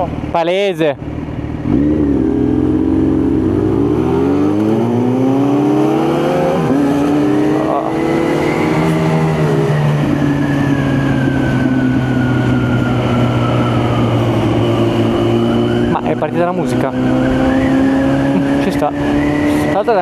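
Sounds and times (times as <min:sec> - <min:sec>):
motorcycle engine accelerating: 0:01.0 - 0:20.0.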